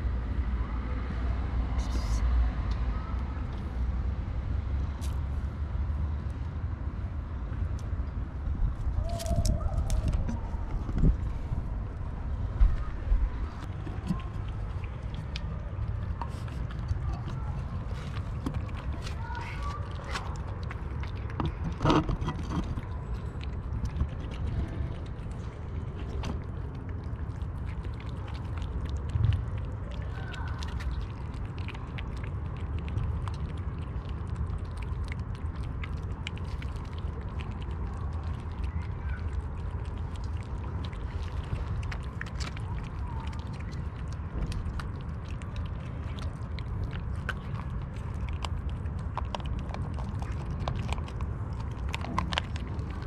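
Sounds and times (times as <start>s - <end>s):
constant low rumble: 0.0s - 53.0s
kittens chewing food: 1.4s - 53.0s.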